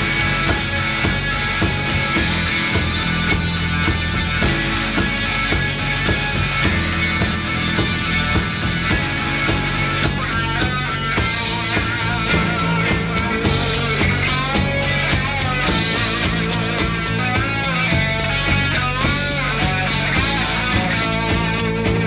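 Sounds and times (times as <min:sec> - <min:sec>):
bass and drum beat: 0:00.0 - 0:22.0
electric guitar lead: 0:00.0 - 0:22.0.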